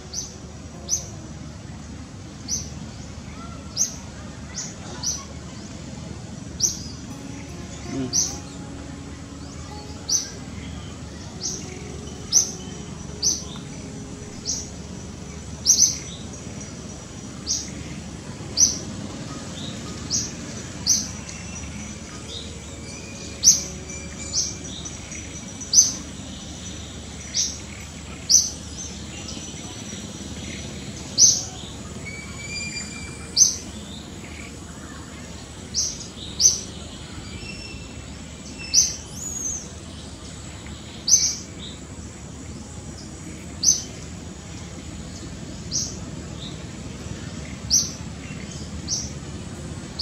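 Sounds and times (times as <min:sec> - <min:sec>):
steady background hiss: 0:00.0 - 0:50.0
bird chirping: 0:06.6 - 0:50.0.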